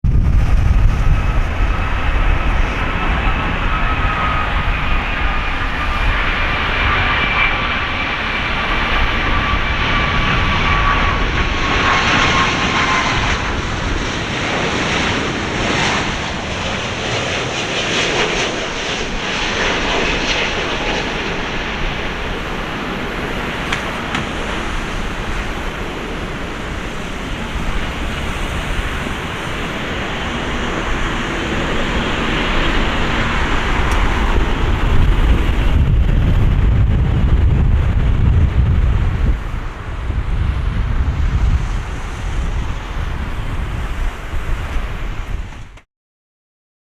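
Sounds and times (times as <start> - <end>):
jet rushing rumble: 0.0 - 45.8
jet engine whine: 0.0 - 45.9.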